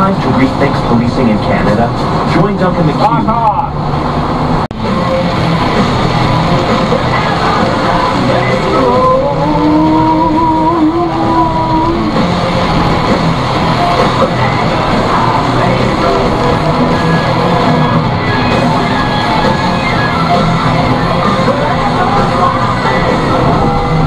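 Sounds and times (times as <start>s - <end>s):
rock music in car: 0.0s - 24.0s
tyres hissing on wet road: 0.0s - 24.0s.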